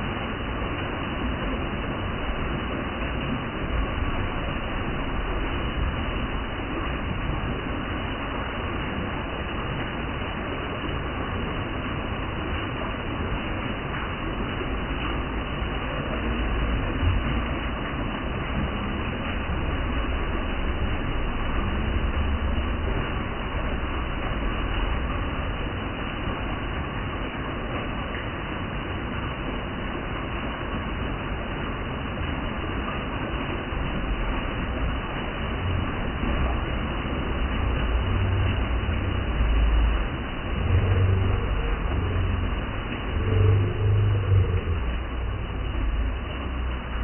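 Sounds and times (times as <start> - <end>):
water rushing over boulders: 0.0 - 47.0.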